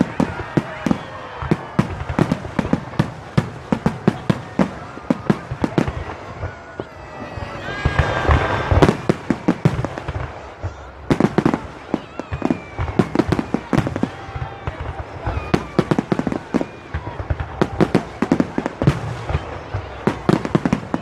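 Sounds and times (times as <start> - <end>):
fireworks bangs and booms: 0.0 - 21.0
fireworks crackling: 0.0 - 21.0.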